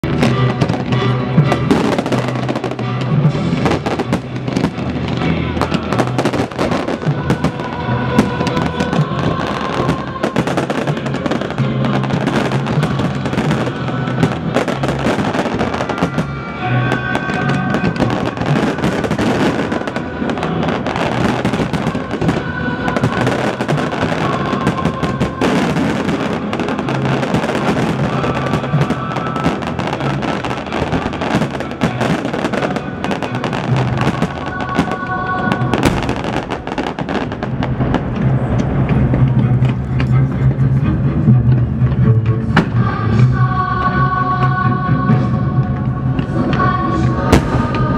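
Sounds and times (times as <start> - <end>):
fireworks bursting and crackling: 0.0 - 40.6, 45.2 - 47.9
loud music with bass line: 0.0 - 47.9.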